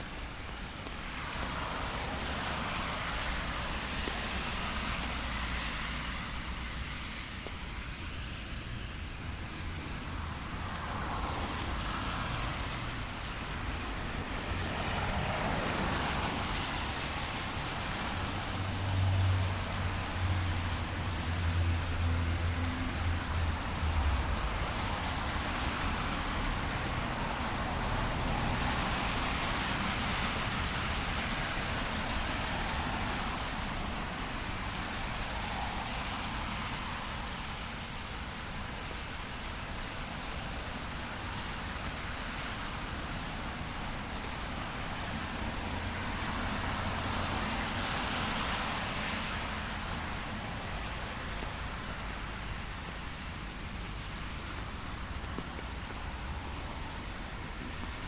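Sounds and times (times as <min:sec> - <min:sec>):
rain hiss on street: 0:00.0 - 0:58.0
road traffic: 0:00.0 - 0:58.0.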